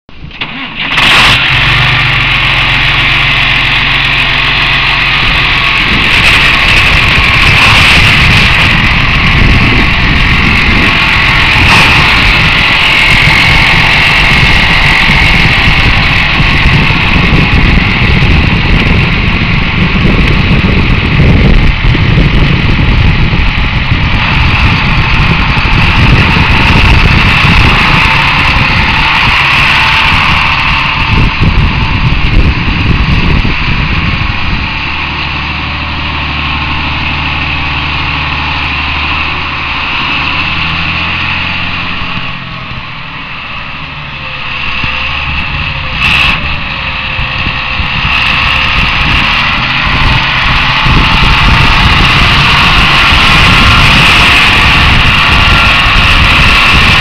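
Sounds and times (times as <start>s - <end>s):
tractor diesel engine running: 0.1s - 57.0s.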